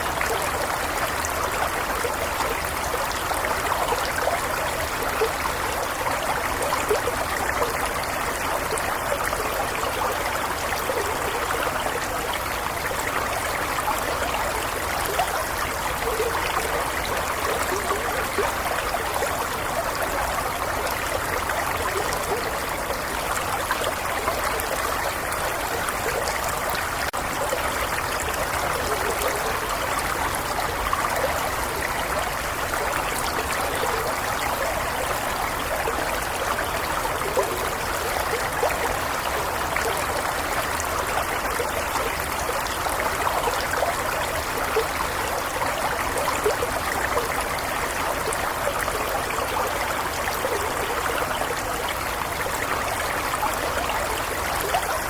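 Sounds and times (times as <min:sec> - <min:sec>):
stream flowing over stones: 0:00.0 - 0:55.0.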